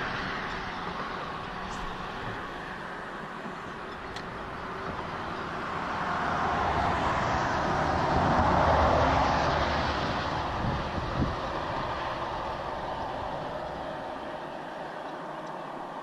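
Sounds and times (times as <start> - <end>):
vehicle passing: 0.0 - 16.0.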